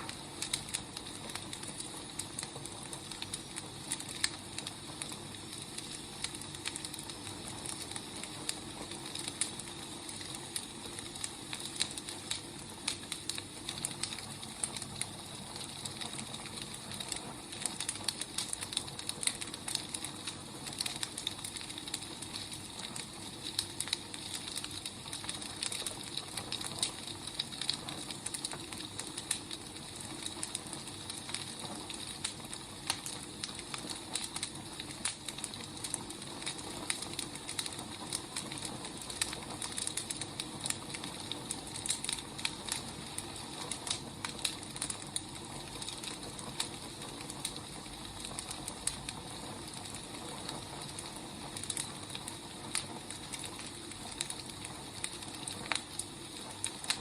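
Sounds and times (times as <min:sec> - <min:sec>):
firewood crackling and popping: 0:00.0 - 0:57.0
wood fire hissing: 0:00.0 - 0:57.0.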